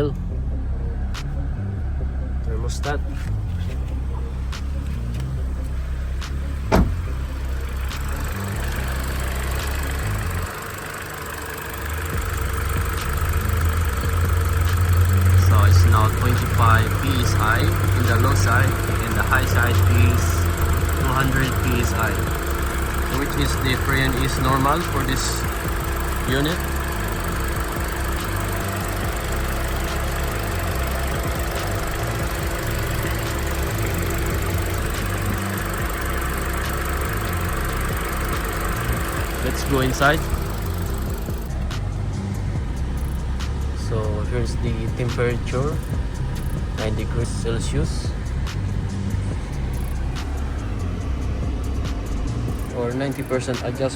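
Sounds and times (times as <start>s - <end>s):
car engine idling: 0.0s - 53.9s
faint ticking: 2.4s - 53.9s.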